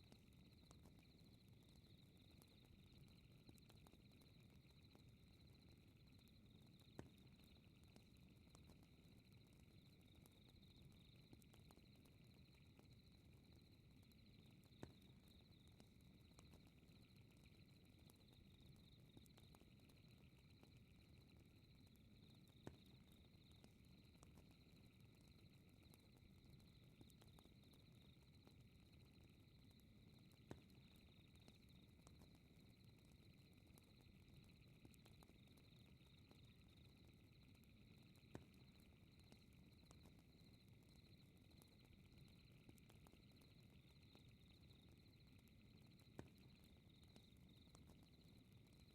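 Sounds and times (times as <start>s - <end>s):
night insects chirping: 0.2s - 13.4s, 14.7s - 48.4s.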